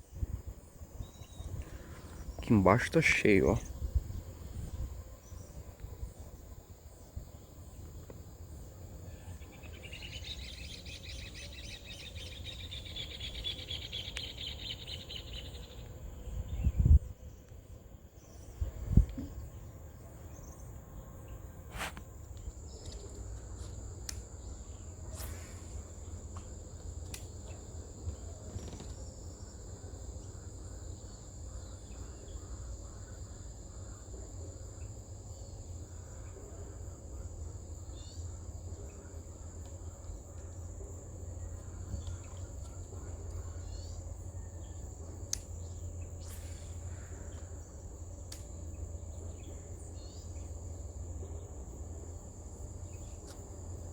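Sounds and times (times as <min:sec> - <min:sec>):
insects buzzing: 0:00.0 - 0:53.9.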